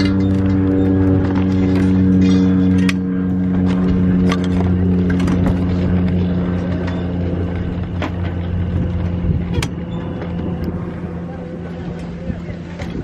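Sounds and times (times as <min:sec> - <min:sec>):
engine humming low: 0:00.0 - 0:13.0.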